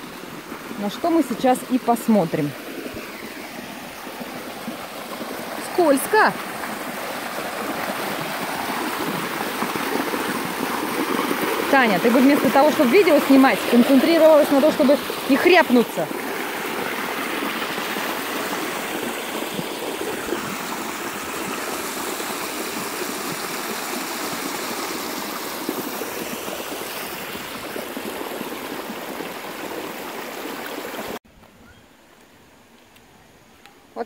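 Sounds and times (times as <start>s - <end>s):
creek rushing over cascades: 0.0s - 31.2s.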